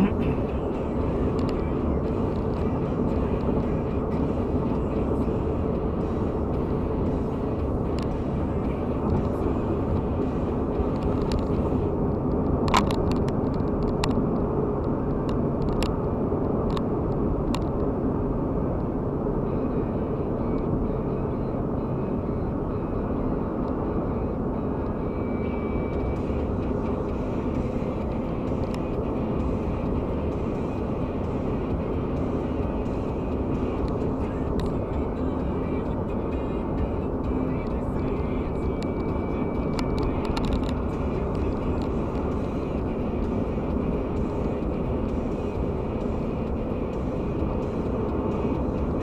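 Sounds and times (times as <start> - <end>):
car road and engine noise: 0.0 - 49.0.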